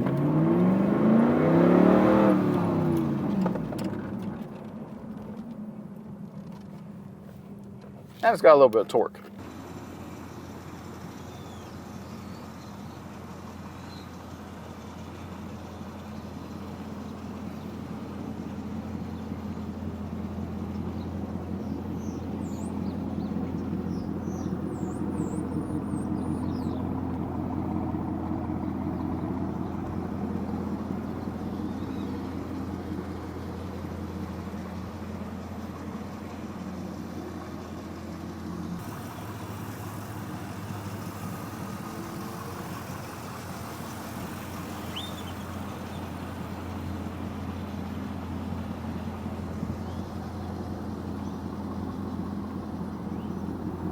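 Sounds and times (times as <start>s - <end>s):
car engine driving: 0.0s - 53.9s
road noise: 0.0s - 53.9s.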